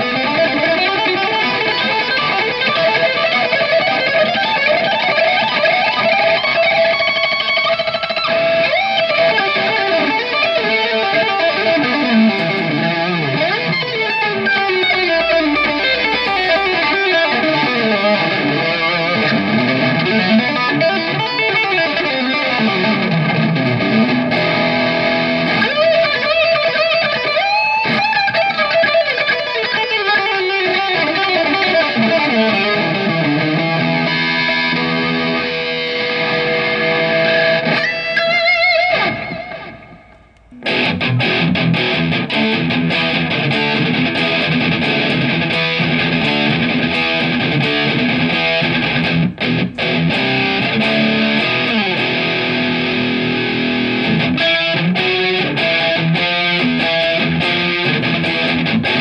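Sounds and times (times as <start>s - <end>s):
electric guitar lead solo: 0.0s - 59.0s.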